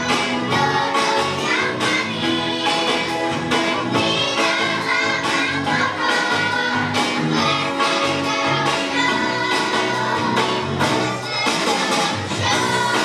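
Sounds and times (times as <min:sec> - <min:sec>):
backing music with steady beat: 0:00.0 - 0:13.0
children singing: 0:00.0 - 0:13.0.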